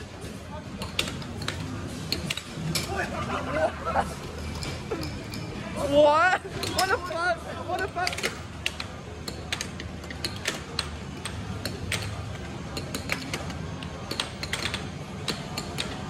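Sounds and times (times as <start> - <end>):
air hockey pucks clacking: 0.7 - 3.2, 4.2 - 5.6, 6.4 - 16.0.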